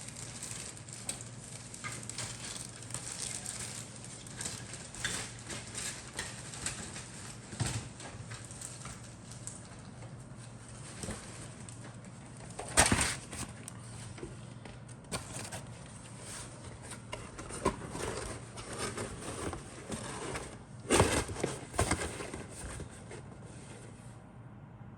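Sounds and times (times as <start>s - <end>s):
cardboard box and plastic parts rustling: 0.0s - 24.0s.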